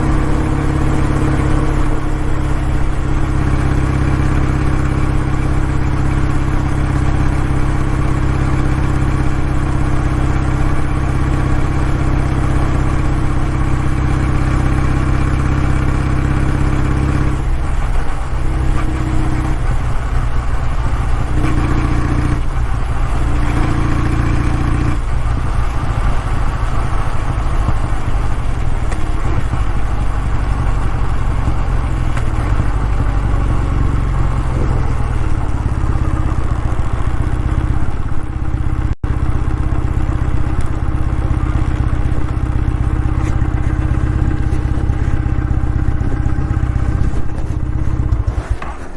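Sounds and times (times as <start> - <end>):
motorcycle engine and exhaust running: 0.0 - 48.9.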